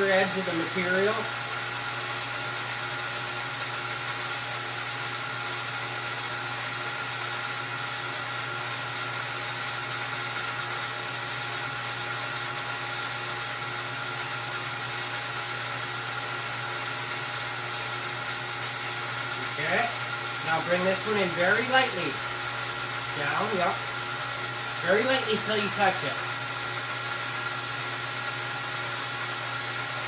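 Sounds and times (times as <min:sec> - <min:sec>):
metal lathe humming and whining: 0:00.0 - 0:30.0.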